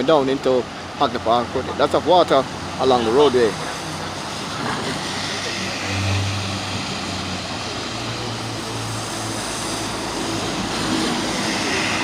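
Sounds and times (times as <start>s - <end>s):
tyres rushing on wet road: 0.0s - 12.0s
vehicle engine humming: 0.0s - 12.0s.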